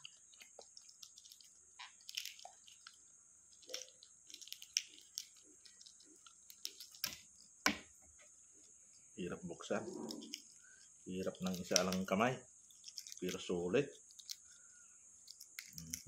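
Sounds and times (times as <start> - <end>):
eggshell cracking: 0.0 - 8.0, 9.9 - 16.0.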